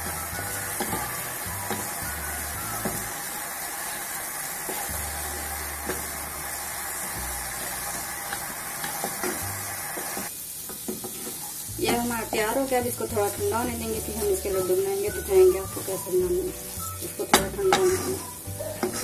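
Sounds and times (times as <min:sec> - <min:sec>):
spatula scraping a wok: 0:00.0 - 0:03.2, 0:04.7 - 0:12.5, 0:14.0 - 0:19.0
frying sizzle: 0:00.0 - 0:19.0.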